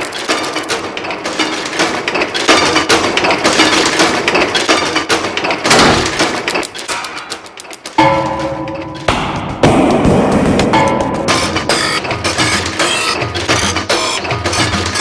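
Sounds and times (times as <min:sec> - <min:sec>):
rapid metallic clicks and knocks: 0:00.0 - 0:15.0.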